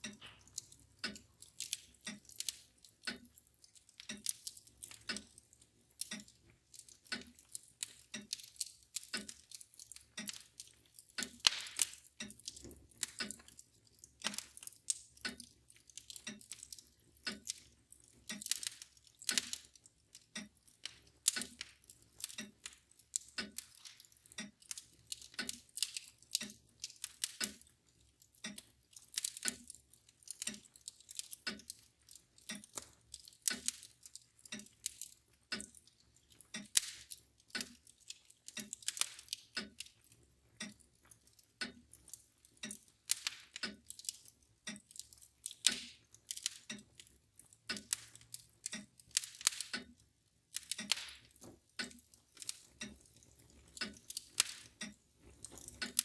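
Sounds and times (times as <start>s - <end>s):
mantel clock ticking: 0.0s - 56.0s
wood fire crackling and popping: 0.0s - 56.0s.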